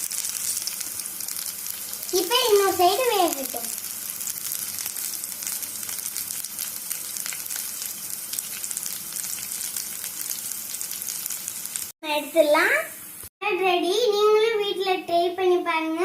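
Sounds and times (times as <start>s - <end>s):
cutlets sizzling in hot oil: 0.0s - 13.3s.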